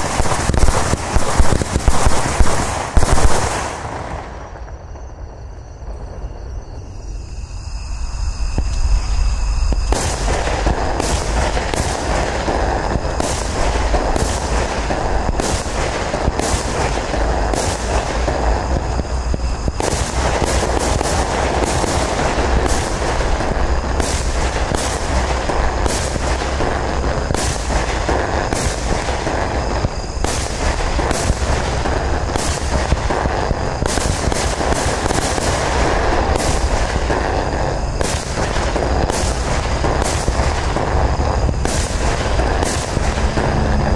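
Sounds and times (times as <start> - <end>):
firework battery firing rapidly: 0.0 - 4.8, 9.7 - 43.9.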